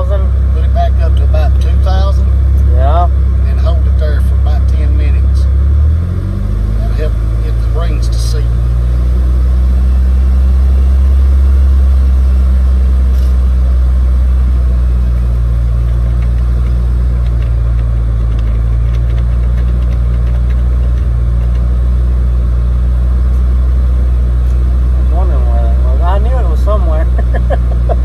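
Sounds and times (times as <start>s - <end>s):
car engine at fast idle: 0.0s - 28.0s.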